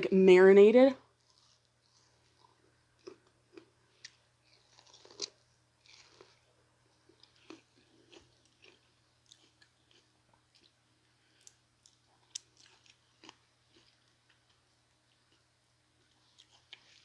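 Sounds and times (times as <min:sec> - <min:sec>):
chewing corn on the cob: 0:01.1 - 0:17.0.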